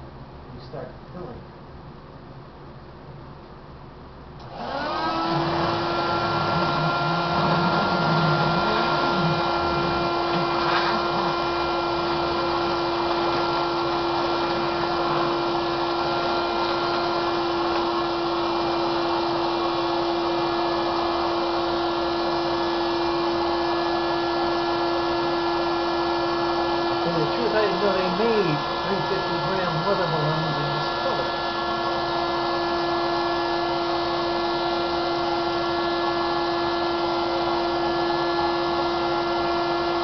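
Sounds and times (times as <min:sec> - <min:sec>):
electric blower whining: 0:04.4 - 0:40.0.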